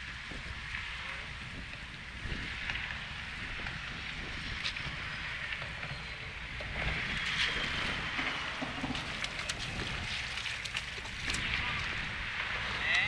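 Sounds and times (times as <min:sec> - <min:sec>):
waves lapping against wall: 0:00.0 - 0:13.0
wind buffeting microphone: 0:00.0 - 0:13.0.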